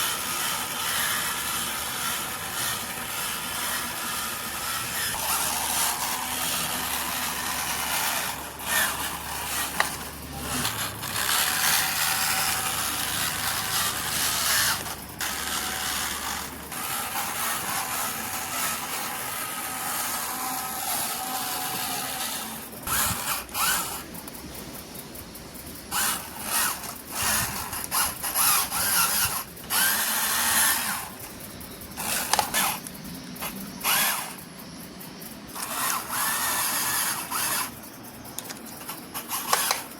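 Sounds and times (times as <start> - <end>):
toy vehicle motors whirring: 0.0 - 39.9.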